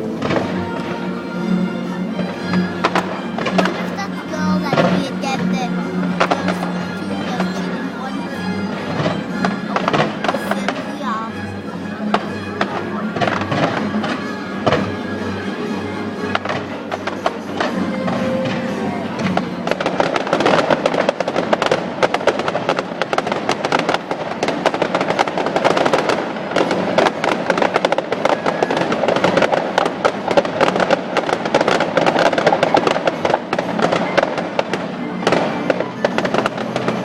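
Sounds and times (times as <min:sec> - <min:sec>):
fireworks crackling: 0:00.0 - 0:37.0
music playing: 0:00.0 - 0:37.0.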